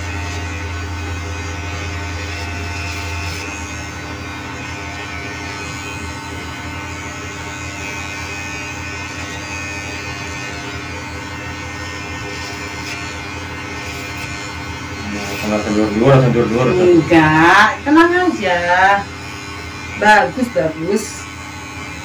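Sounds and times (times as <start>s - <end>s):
electric hair clipper buzzing: 0.0s - 22.0s.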